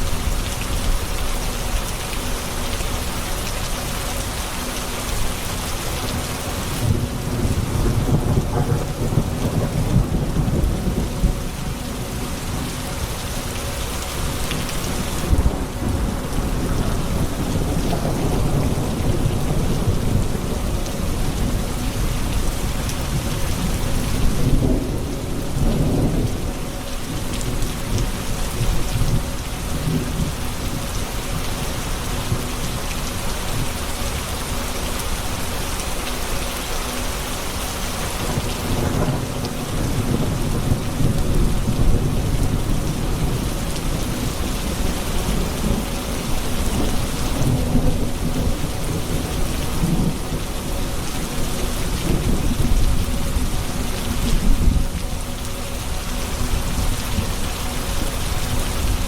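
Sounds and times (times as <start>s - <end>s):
heavy rain: 0.0s - 59.0s
thunder rumbling: 6.1s - 33.8s, 38.2s - 59.0s.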